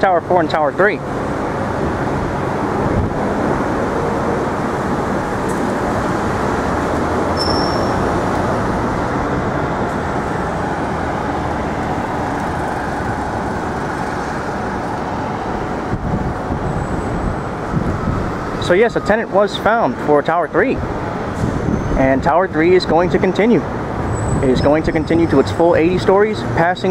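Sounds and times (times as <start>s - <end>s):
city street traffic rumble: 0.0s - 26.9s.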